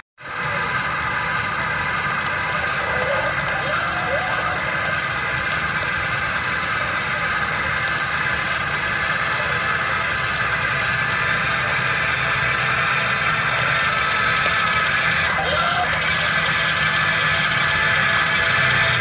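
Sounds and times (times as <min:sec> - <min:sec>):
low engine-like rumble: 0:00.2 - 0:19.0
model excavator motors whining: 0:00.2 - 0:19.0.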